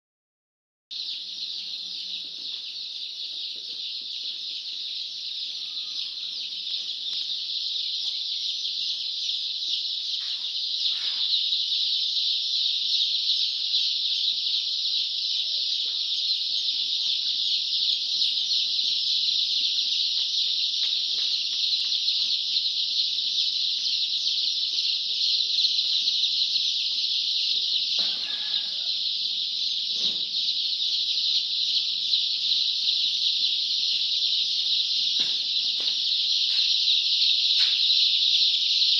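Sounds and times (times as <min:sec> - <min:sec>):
chicks peeping: 0:00.9 - 0:38.9.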